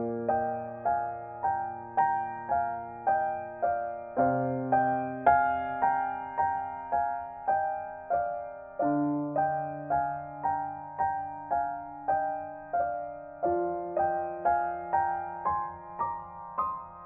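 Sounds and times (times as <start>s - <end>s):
gentle solo piano music: 0.0s - 17.0s.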